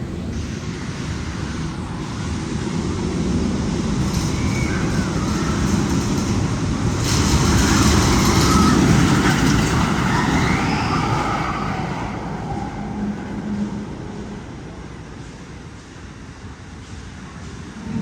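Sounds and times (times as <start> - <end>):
roller coaster rumbling in tunnel: 0.0 - 18.0.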